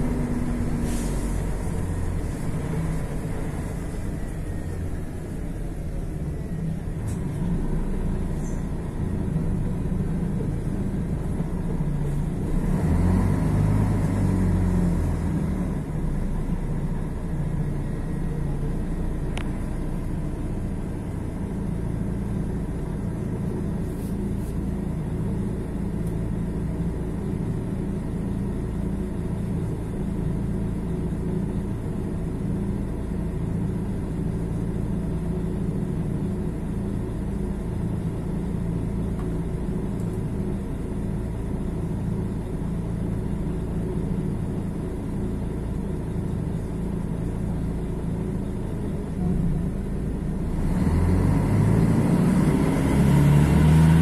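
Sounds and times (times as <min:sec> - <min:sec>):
bus diesel engine revving: 0:00.0 - 0:54.0.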